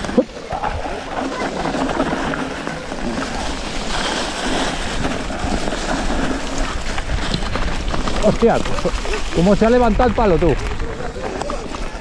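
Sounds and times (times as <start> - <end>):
tyre noise on dirt: 0.0 - 12.0
wind buffeting microphone: 0.0 - 12.0.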